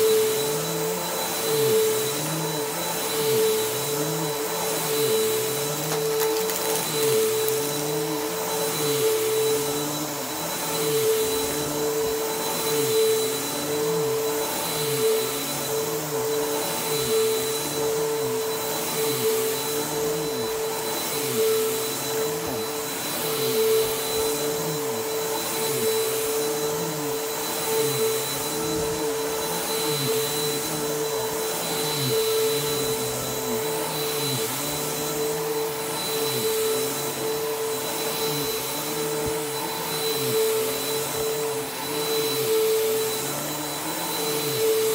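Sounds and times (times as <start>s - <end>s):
upright vacuum cleaner running: 0.0s - 44.9s.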